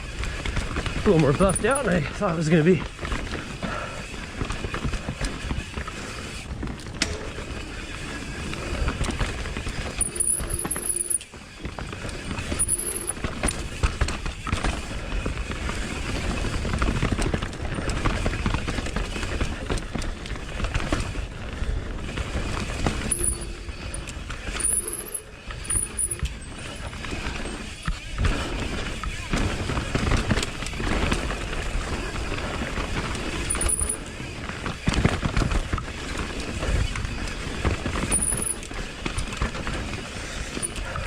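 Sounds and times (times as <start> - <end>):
bike rattling: 0.0 - 41.0
bike tyre roar: 0.0 - 41.0.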